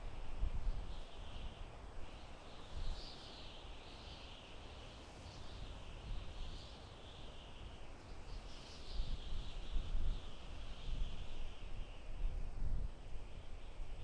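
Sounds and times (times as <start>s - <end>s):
wind rustling leaves: 0.0s - 14.0s.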